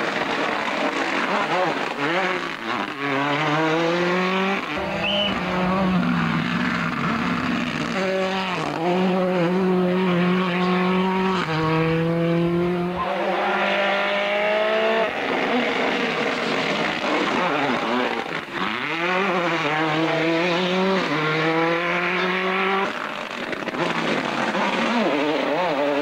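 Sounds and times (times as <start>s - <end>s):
rally car engine at full throttle: 0.0s - 26.0s.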